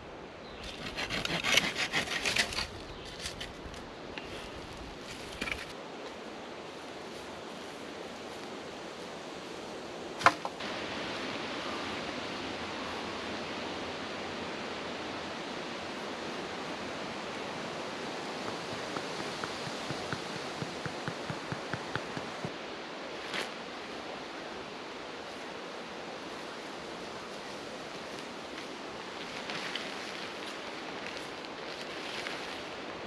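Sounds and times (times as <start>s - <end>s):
wind rushing through trees: 0.0s - 33.0s.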